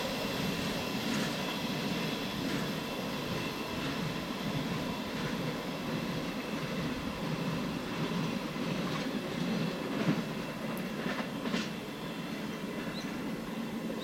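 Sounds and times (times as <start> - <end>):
freight train rumbling on rails: 0.0 - 14.0
train wheel clacks: 0.0 - 14.0.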